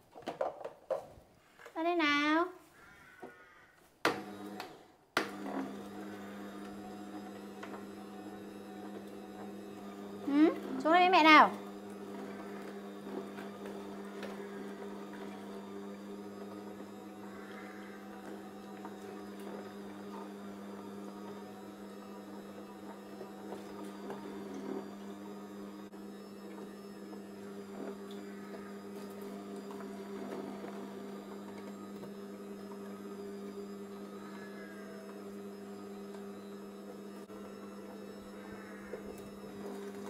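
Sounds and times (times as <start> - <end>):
electric juicer motor humming: 1.6 - 40.0.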